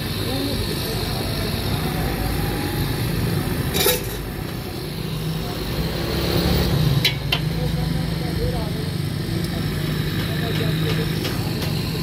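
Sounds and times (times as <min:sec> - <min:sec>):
low motor-like drone: 0:00.0 - 0:12.0.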